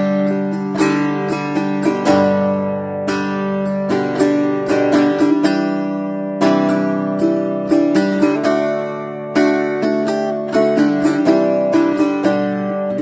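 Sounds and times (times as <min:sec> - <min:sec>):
solo acoustic guitar: 0:00.0 - 0:13.0.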